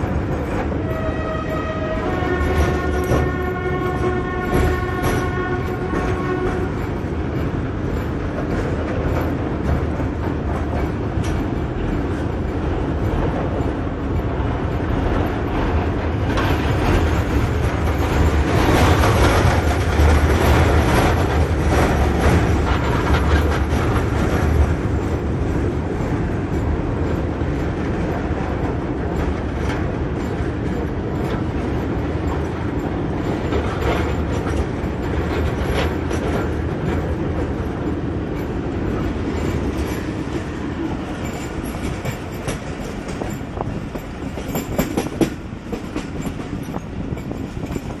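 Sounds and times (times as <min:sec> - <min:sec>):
clickety-clack of rail joints: 0:00.0 - 0:48.0
train wheels rumbling on rails: 0:00.0 - 0:48.0.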